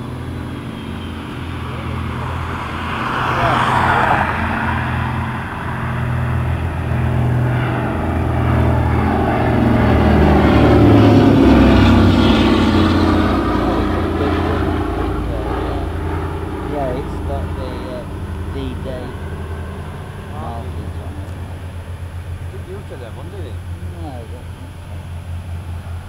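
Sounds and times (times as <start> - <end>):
propeller aircraft engines droning: 0.0 - 26.0.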